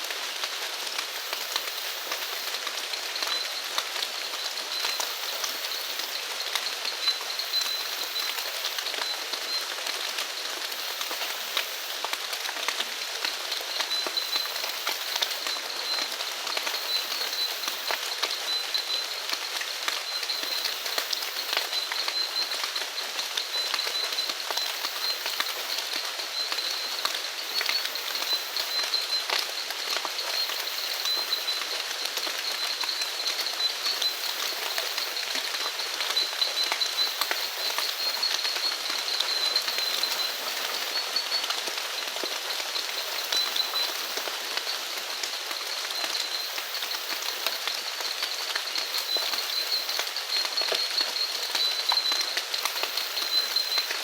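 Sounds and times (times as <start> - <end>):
rain falling: 0.0 - 54.0
raindrops ticking: 0.1 - 54.0.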